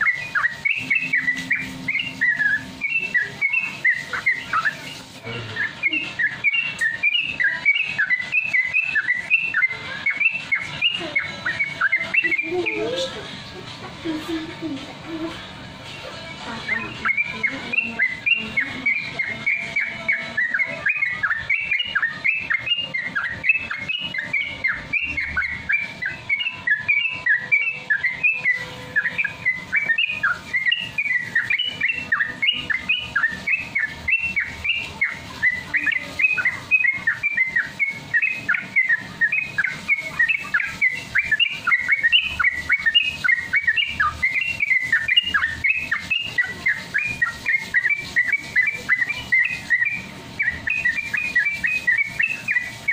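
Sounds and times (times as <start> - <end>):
bird singing whistled notes: 0.0 - 13.6, 16.0 - 52.9.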